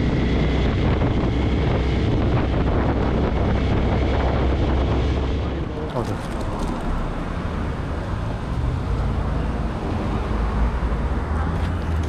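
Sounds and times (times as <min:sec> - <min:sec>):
motorcycle engine rumble: 0:00.0 - 0:09.7
road and wind noise: 0:00.0 - 0:12.0.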